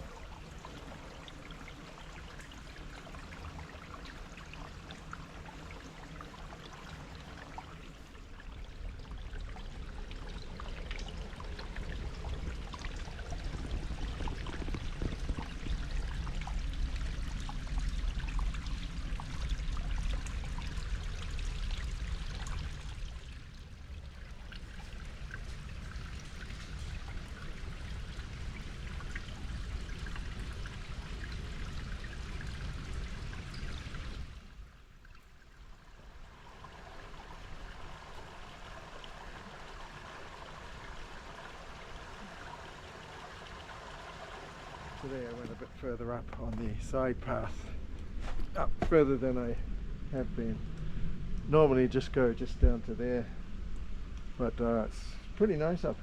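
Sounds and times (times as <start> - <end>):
water drips: 0.0 - 49.2
water trickling and splashing: 0.0 - 49.6, 50.2 - 56.0.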